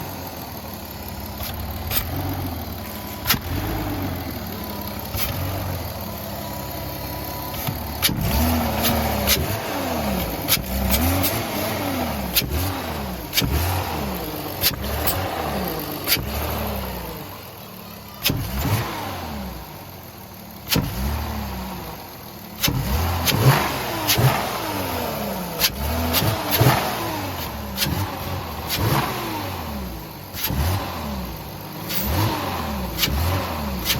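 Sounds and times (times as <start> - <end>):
car engine revving: 0.0 - 20.0, 20.6 - 33.9.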